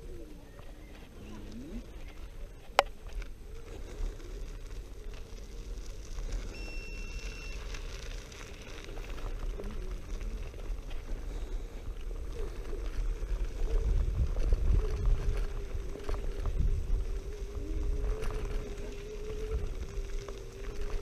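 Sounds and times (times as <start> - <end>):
faint wavering motor hum: 0.0 - 21.0
wind and tyres on gravel rumble: 0.0 - 21.0.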